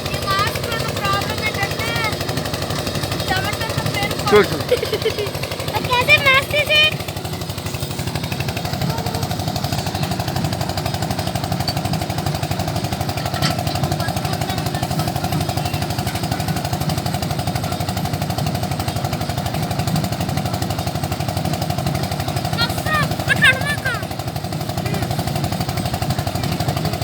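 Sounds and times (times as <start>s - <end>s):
tractor diesel engine chugging: 0.0s - 27.0s.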